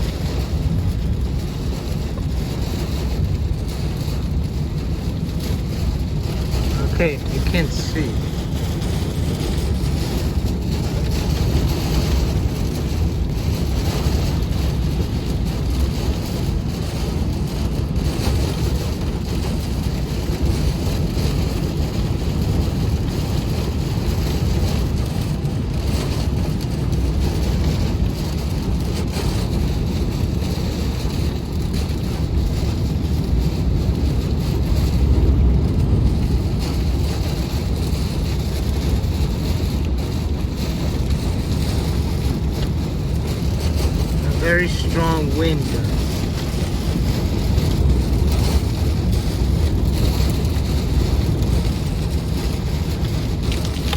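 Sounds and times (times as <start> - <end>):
wind buffeting microphone: 0.0 - 44.9, 45.7 - 53.9
hail: 0.0 - 53.9
heavy rain: 0.0 - 53.9.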